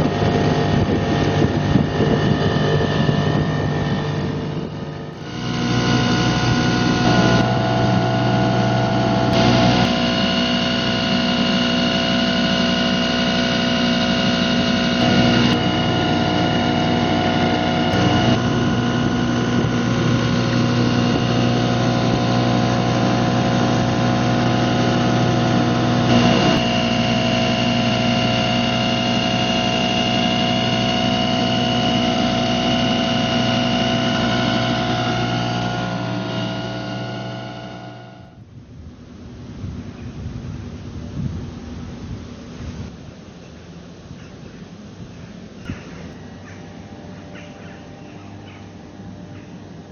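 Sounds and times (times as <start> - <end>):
outboard motor running: 0.0 - 42.9, 45.3 - 49.9.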